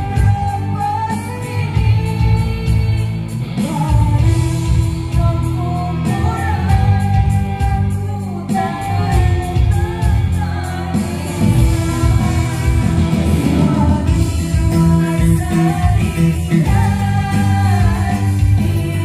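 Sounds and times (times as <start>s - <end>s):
live band through loud pa: 0.0s - 19.0s
woman singing: 0.0s - 19.0s.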